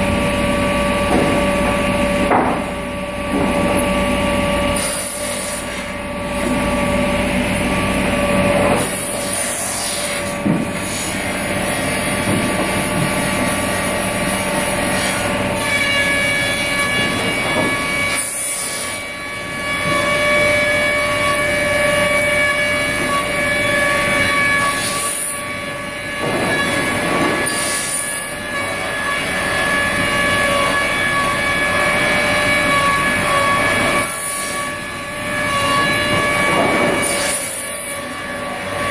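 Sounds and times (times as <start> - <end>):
constant mechanical noise: 0.0 - 38.9
planer cutter whine: 0.0 - 38.9.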